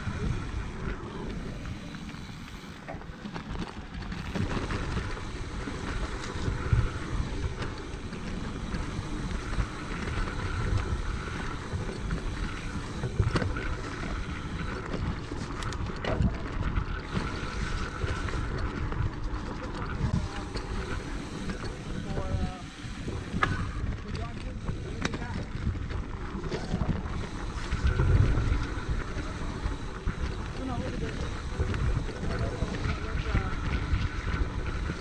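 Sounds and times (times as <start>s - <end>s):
bike clicking and knocking: 0.0s - 35.0s
knobby tyres humming: 0.0s - 35.0s
wind buffeting microphone: 0.0s - 35.0s.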